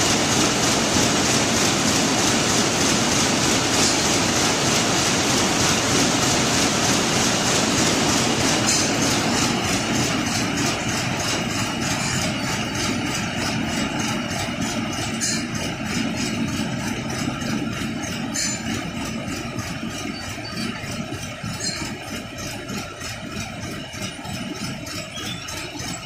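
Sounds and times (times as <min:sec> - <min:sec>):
knitting machine clatter: 0:00.0 - 0:26.0.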